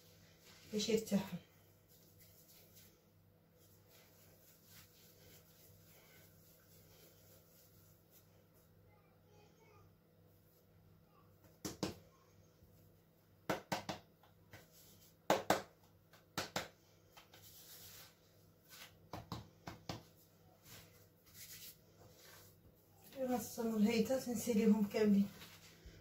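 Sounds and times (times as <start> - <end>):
hands working dough: 0.0 - 8.8, 11.4 - 23.7.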